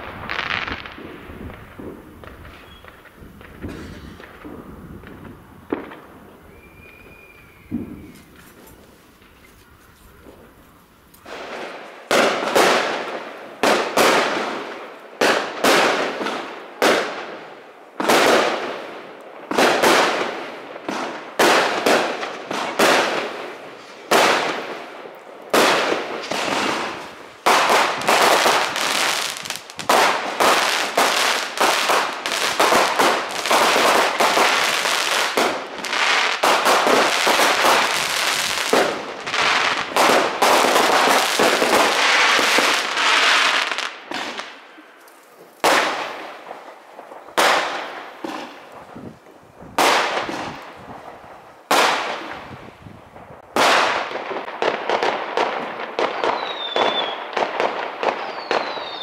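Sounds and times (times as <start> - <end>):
fireworks bangs: 0.0 - 9.4, 10.1 - 59.0.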